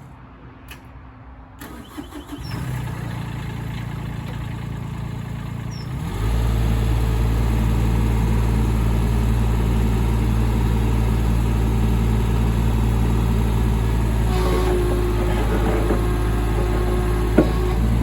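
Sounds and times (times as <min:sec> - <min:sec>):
excavator diesel engine running: 0:01.6 - 0:18.0.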